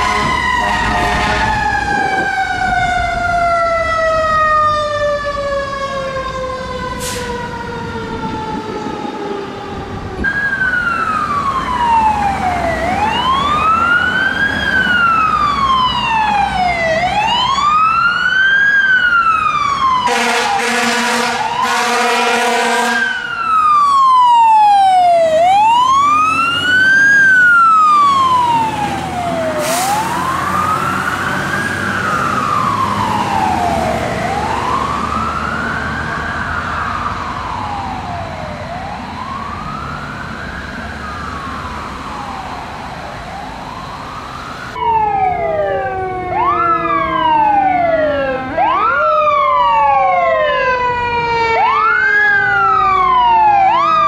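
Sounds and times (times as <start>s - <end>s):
fire engine siren wailing: 0.0s - 54.0s
overlapping fast sirens: 0.0s - 54.0s.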